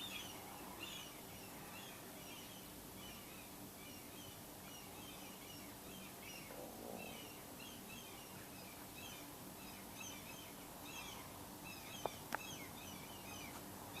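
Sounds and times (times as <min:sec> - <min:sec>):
birds chirping: 0:00.0 - 0:14.0
faint background hiss: 0:00.0 - 0:14.0.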